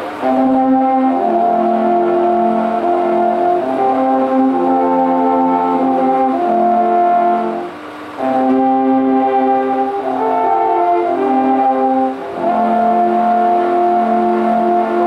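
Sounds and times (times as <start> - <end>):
alphorns playing chords: 0.0 - 15.0.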